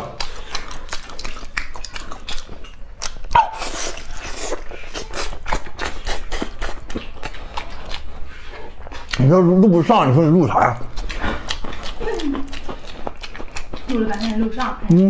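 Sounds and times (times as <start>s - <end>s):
wet chewing and lip smacking: 0.0s - 15.0s.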